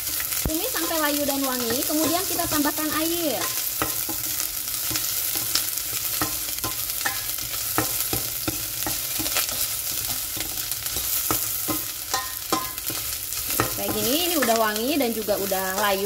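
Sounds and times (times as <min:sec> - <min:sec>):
onion and garlic sizzling in oil: 0:00.0 - 0:16.0.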